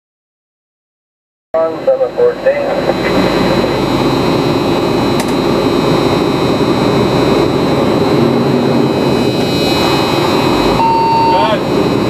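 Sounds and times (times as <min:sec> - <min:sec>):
fire engine motor rumbling: 0:01.6 - 0:12.0.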